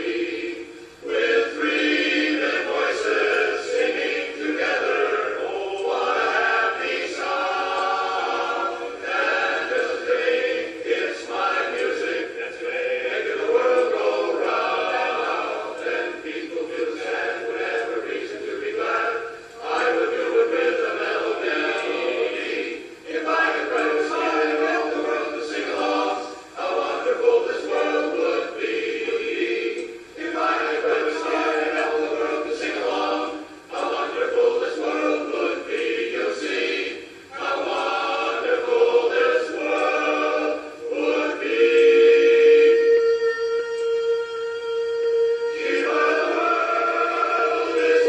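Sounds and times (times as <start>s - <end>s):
men's chorus singing a cappella: 0.0s - 48.0s.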